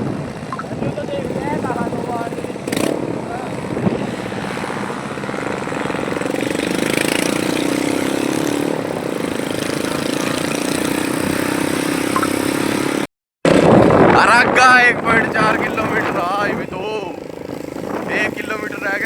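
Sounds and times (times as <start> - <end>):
motorcycle engine running: 0.0 - 14.0, 15.0 - 19.0.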